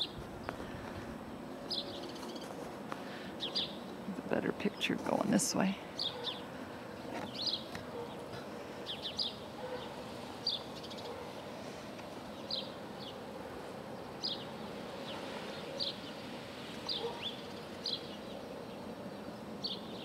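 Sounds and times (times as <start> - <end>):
faint background noise: 0.0 - 20.0.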